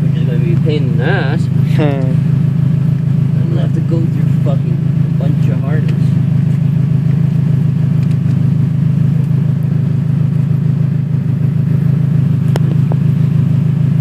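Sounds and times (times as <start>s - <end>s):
car engine idling loudly: 0.0s - 14.0s.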